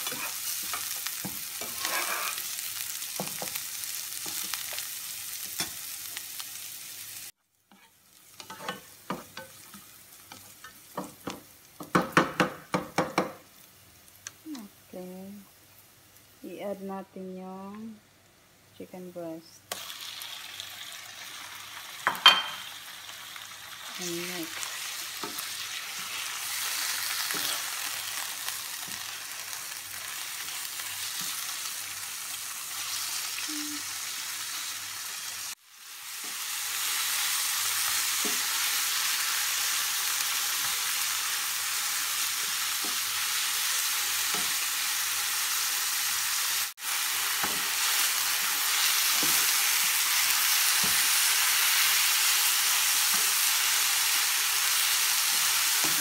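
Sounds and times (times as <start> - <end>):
meat sizzling in a frying pan: 0.0 - 14.5, 19.7 - 56.0.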